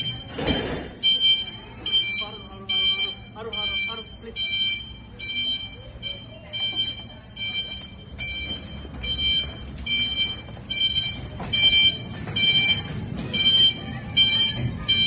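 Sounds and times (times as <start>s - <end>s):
warning beeper beeping: 0.0s - 15.0s.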